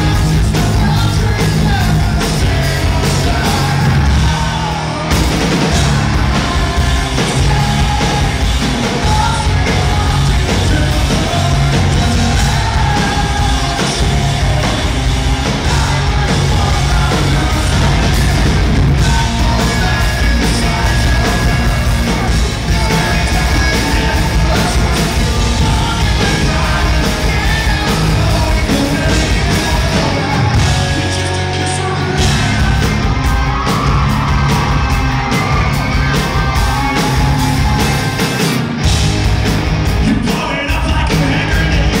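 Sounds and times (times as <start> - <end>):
man singing lead: 0.0 - 38.5, 39.9 - 42.0
rock band playing: 0.0 - 42.0.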